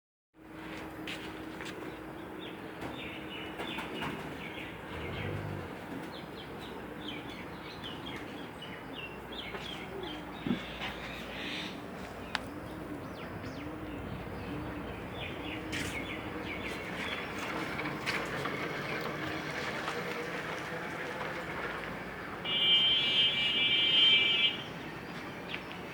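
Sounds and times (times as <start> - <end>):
birds chirping: 1.7 - 25.9.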